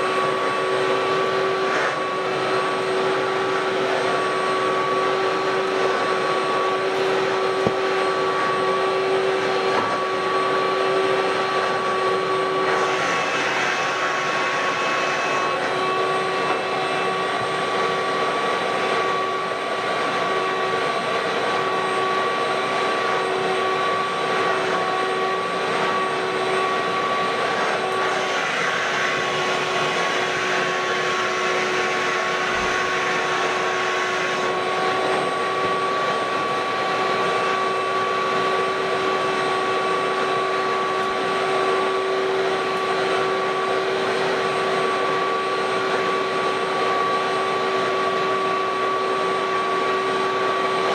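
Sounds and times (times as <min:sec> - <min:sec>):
shop vacuum running: 0:00.0 - 0:50.9.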